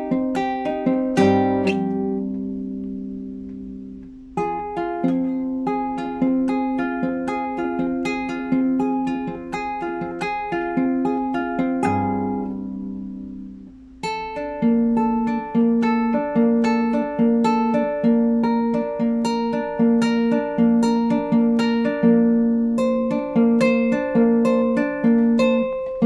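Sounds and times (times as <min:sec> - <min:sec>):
classical guitar playing: 0:00.0 - 0:26.0.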